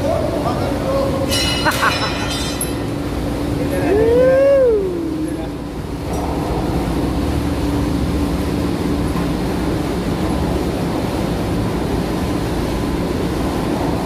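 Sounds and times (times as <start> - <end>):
faint steady whine: 0.0 - 14.0
machinery low hum: 0.0 - 14.0.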